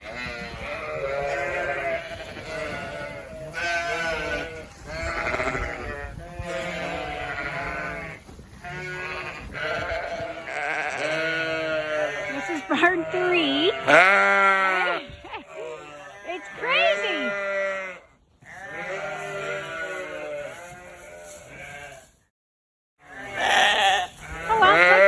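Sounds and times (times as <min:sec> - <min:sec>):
sheep bleating: 0:00.0 - 0:22.1, 0:23.0 - 0:25.0.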